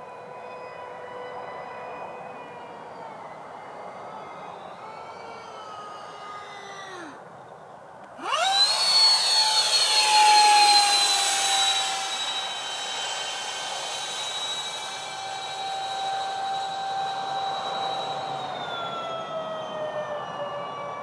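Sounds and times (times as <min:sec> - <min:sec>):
electric ducted fans whining: 0:01.4 - 0:21.0.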